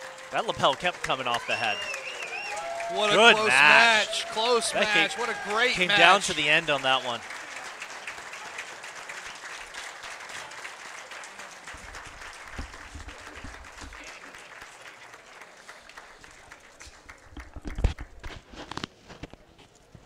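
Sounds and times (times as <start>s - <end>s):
audience applauding: 0.0s - 18.3s.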